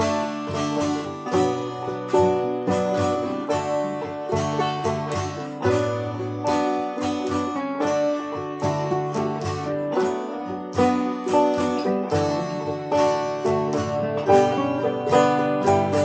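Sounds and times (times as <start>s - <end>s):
plucked string instruments: 0.0s - 16.0s.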